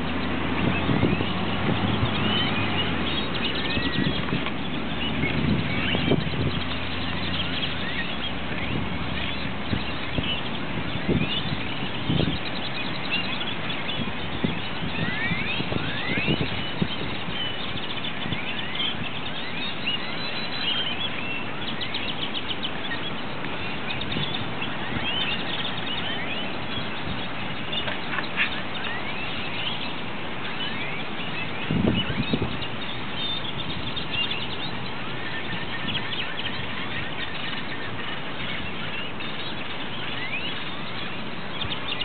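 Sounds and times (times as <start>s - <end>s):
purple martins chirping: 0.0s - 42.0s
steady background hiss: 1.3s - 42.0s.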